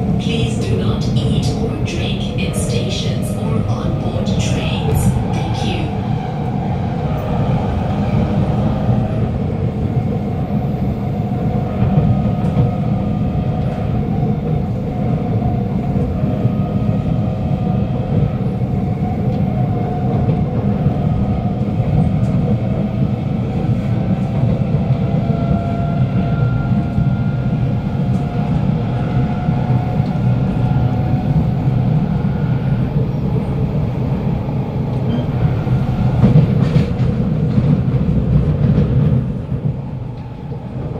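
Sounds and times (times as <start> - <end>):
train wheels rumbling: 0.0 - 40.9.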